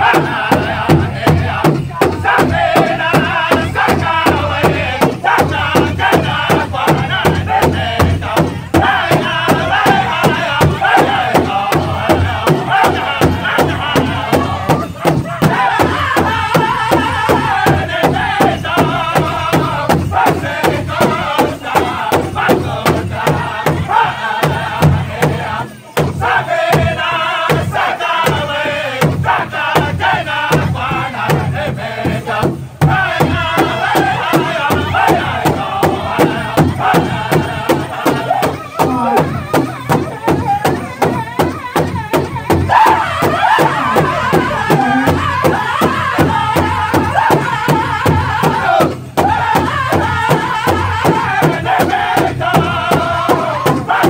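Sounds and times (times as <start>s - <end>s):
large hide drum beating: 0.0s - 54.0s
men singing in high voices: 0.0s - 54.0s.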